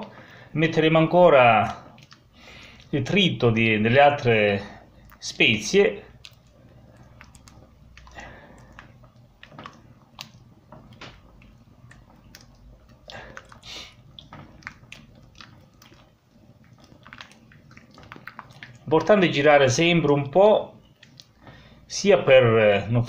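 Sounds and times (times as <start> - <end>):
wooden spoon stirring thick risotto: 0.0 - 22.9
soft squelching with small clicks: 1.4 - 3.5, 4.2 - 22.0.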